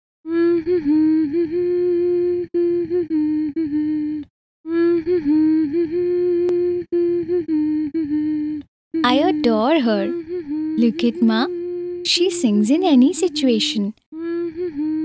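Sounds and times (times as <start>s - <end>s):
woman humming a slow tune: 0.3s - 15.0s.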